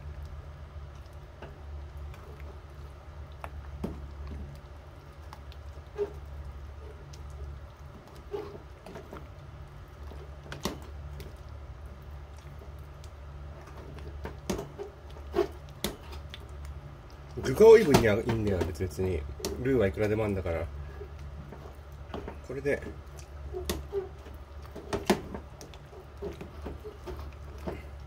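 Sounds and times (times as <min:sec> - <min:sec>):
steady low hum: 0:00.0 - 0:28.0
stew squelching: 0:00.1 - 0:28.0.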